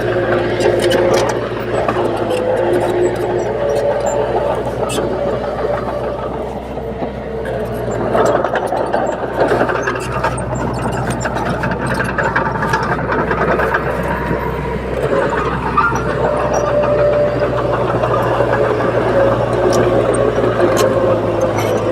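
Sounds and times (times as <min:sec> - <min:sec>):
diesel engine running under load: 0:00.0 - 0:21.9
metallic clatter of steel tracks: 0:00.0 - 0:21.9.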